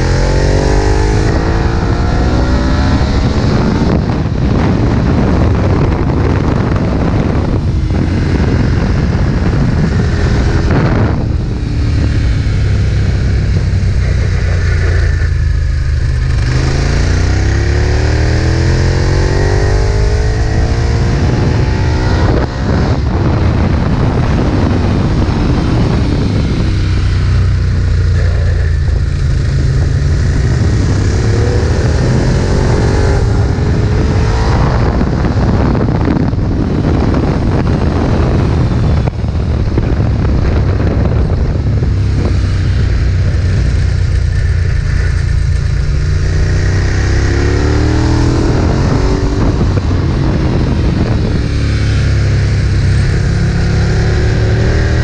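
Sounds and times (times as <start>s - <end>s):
motorcycle engine accelerating hard: 0.0s - 55.0s.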